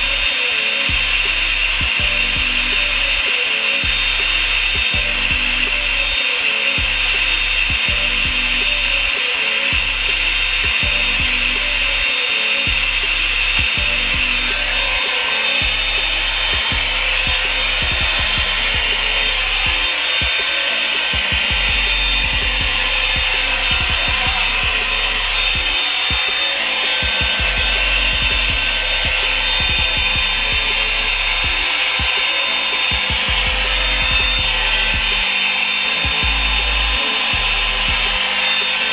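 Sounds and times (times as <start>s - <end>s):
background music with bass line: 0.0s - 38.9s
hair dryer whine and air rush: 0.0s - 38.9s.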